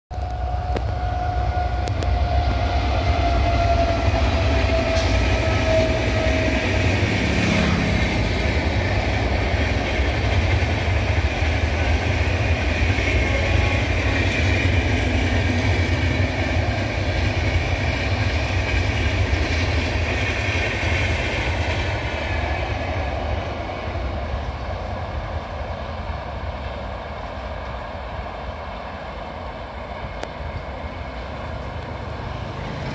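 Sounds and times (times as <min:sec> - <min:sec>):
train wheels rumbling on rails: 0:00.1 - 0:32.9.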